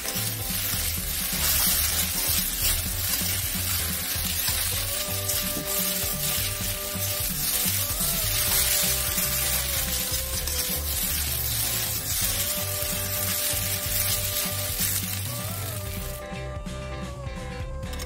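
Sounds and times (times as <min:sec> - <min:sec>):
metal spatula tossing: 0:00.0 - 0:16.2
noodles sizzling in a wok: 0:00.0 - 0:16.3
background music: 0:00.0 - 0:18.0.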